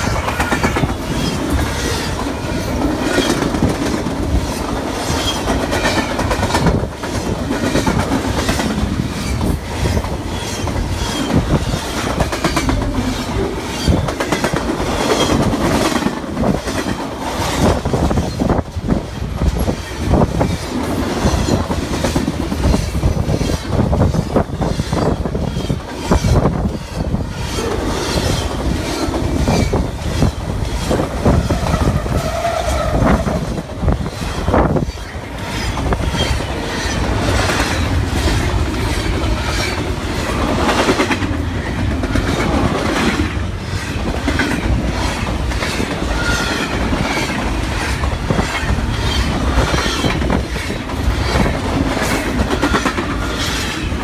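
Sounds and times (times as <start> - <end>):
train wheels rushing on rail: 0.0 - 54.0
wheels clacking on rail joints: 0.0 - 54.0.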